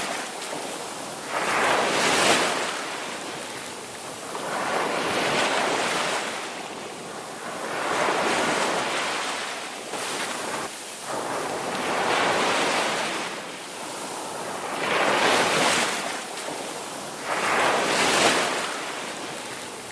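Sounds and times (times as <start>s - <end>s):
ocean waves breaking: 0.0s - 19.9s.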